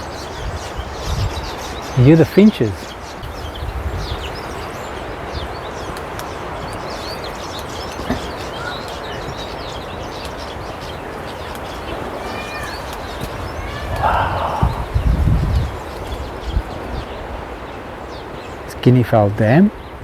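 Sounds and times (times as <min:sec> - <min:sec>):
finches chirping: 0:00.0 - 0:18.8.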